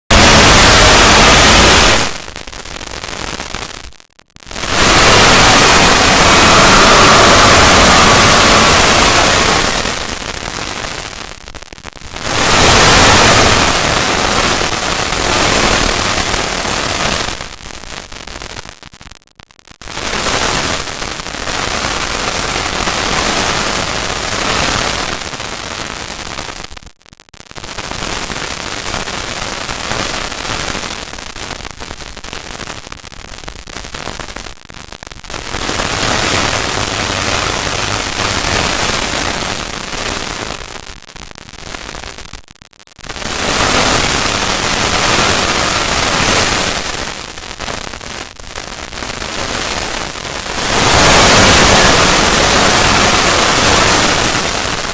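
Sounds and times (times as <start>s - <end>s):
distorted static-like noise: 0.0s - 54.9s.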